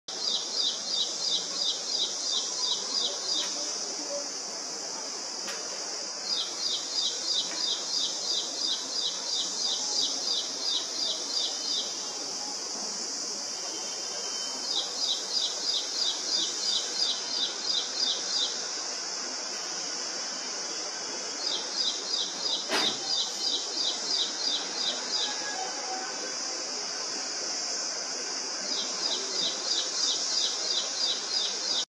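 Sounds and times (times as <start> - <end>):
high insect drone: 0.1 - 31.8.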